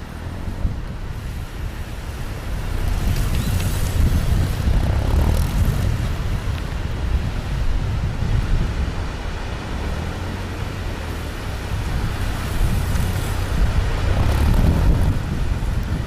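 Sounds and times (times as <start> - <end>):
motorcycle engine at low revs: 0.0 - 16.0
wind buffeting microphone: 0.0 - 16.0.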